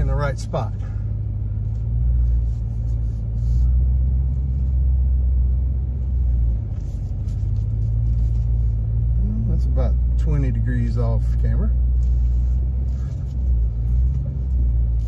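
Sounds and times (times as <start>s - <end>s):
truck engine rumbling at low revs: 0.0s - 15.0s.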